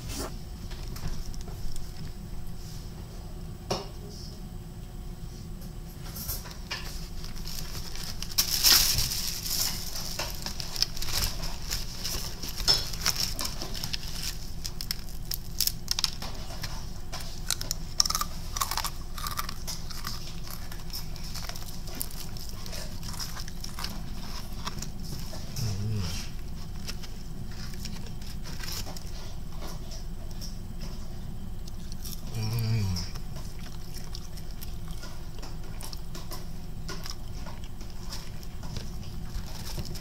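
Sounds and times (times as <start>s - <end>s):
crunching fried chicken: 6.3s - 30.8s, 31.6s - 40.0s
chewing: 6.7s - 31.0s, 31.6s - 40.0s.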